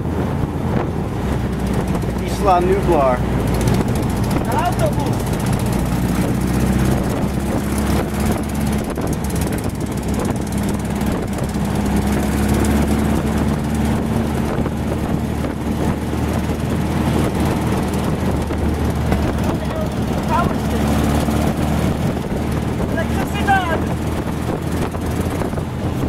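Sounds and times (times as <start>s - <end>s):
dune buggy engine running: 0.0s - 26.0s
road noise: 0.0s - 26.0s
wind noise: 0.0s - 26.0s.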